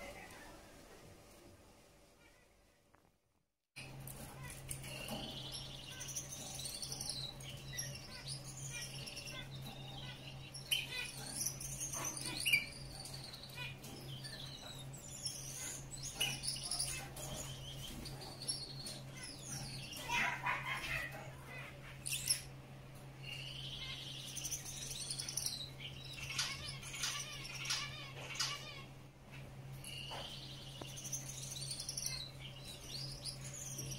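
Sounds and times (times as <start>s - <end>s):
finch chirping and twittering: 3.8s - 33.9s.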